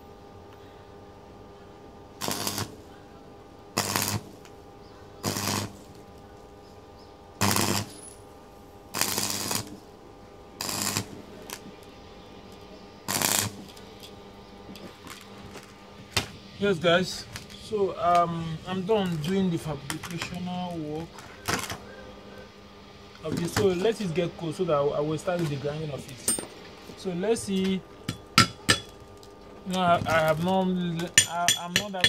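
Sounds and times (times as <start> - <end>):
steady hum: 0.0 - 32.0
crackling welding arc: 1.9 - 3.1, 3.7 - 21.9, 23.0 - 32.0.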